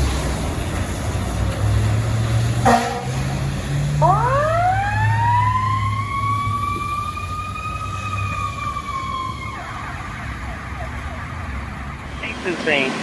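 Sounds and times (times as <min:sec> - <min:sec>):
fire engine siren wailing: 0:00.0 - 0:13.0
truck engine humming: 0:00.0 - 0:13.0.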